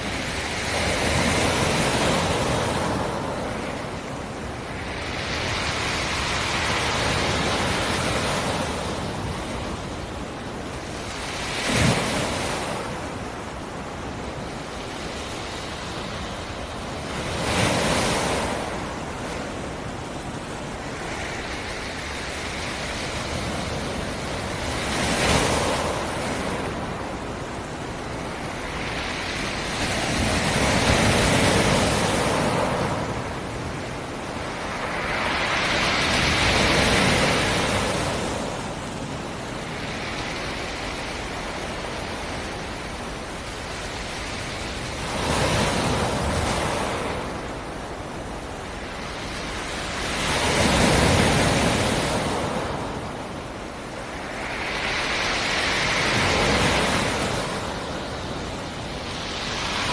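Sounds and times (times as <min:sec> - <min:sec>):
steady wash of water: 0:00.0 - 0:59.9
waves breaking on shore: 0:00.0 - 0:59.9.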